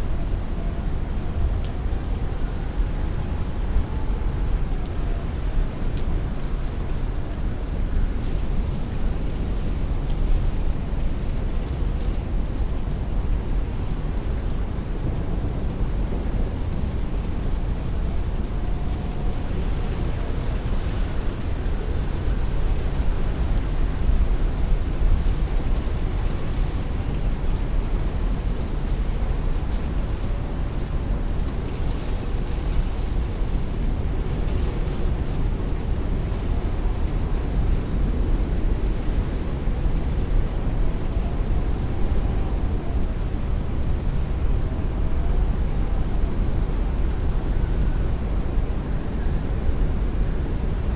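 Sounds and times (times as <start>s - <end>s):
heavy rain on a window: 0.0s - 50.9s
strong wind: 0.0s - 50.9s.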